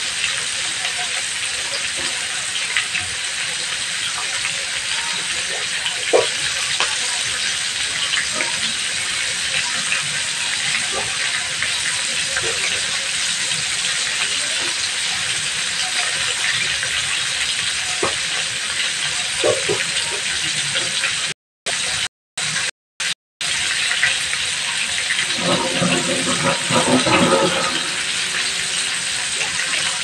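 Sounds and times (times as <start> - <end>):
chicken frying in hot oil: 0.0 - 30.0.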